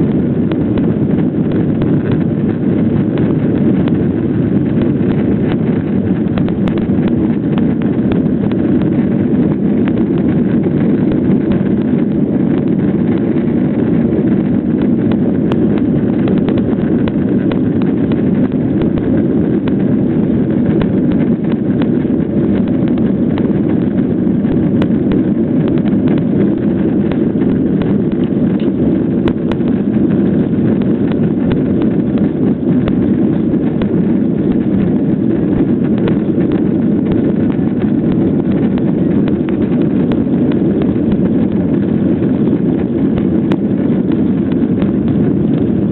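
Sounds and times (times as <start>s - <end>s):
jet engines and airflow rumble: 0.0s - 45.9s.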